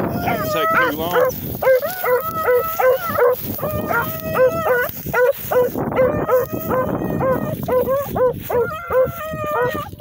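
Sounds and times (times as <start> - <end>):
hounds baying: 0.0 - 10.0.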